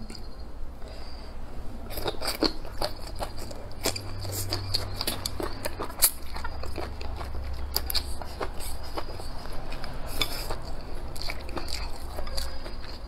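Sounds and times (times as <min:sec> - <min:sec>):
close chewing with wet mouth smacks: 0:01.9 - 0:13.0.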